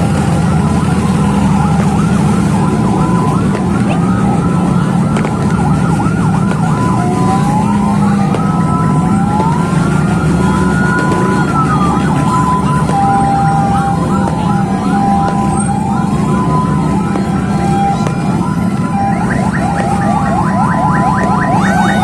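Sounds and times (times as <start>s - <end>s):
ambulance sirens: 0.0s - 22.0s.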